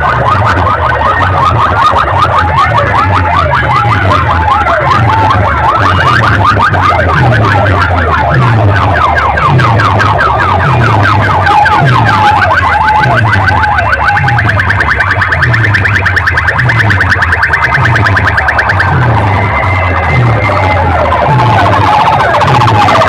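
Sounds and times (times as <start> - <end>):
electronic siren-like warbling: 0.0 - 23.0
falling bass drop: 0.0 - 23.0.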